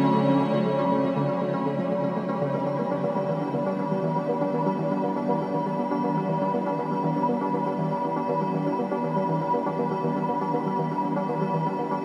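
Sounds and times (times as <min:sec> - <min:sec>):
ambient music with held chords: 0:00.0 - 0:12.0.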